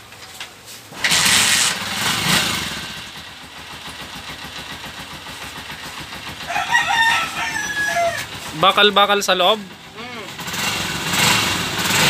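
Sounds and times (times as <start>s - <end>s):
motorcycle engine starting and idling: 0.0s - 12.0s.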